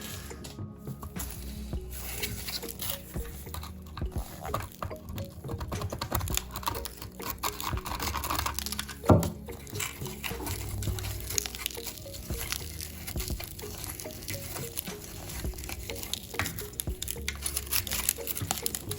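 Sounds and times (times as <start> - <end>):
quiet background music: 0.0 - 18.9.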